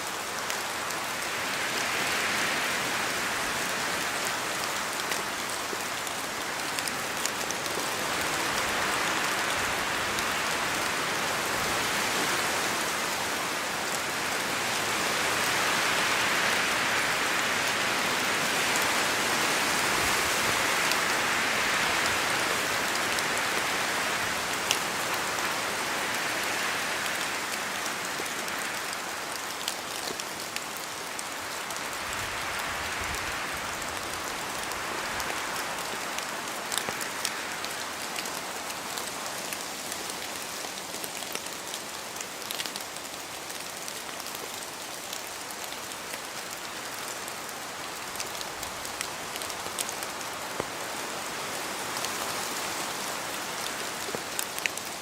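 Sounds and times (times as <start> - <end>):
rain falling in forest: 0.0 - 55.0
wind through trees: 0.0 - 55.0.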